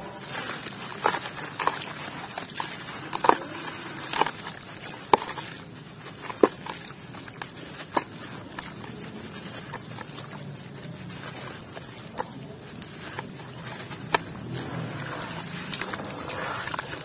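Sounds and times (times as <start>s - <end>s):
dry soil crunching and pattering: 0.0s - 17.0s
mud squelching and sloshing: 0.0s - 17.0s
soil pieces cracking: 0.0s - 17.0s.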